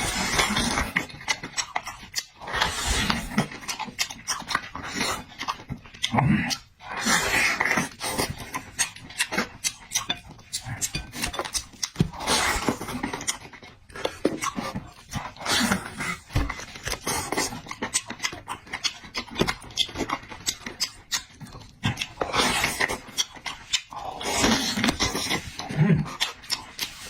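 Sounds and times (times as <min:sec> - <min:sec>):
wet chewing and lip smacking: 0:00.0 - 0:27.0.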